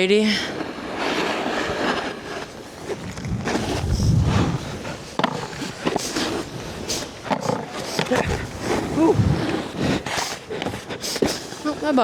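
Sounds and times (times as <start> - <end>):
snowboard scraping over snow: 0.0 - 12.0.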